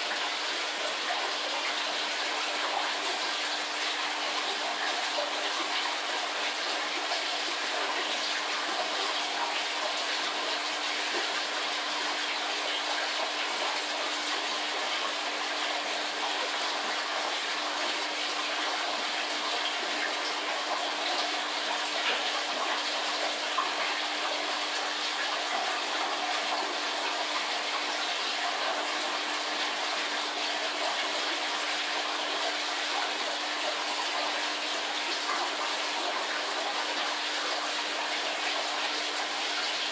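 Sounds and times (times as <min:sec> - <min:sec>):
aquarium water and bubbles: 0:00.0 - 0:39.9.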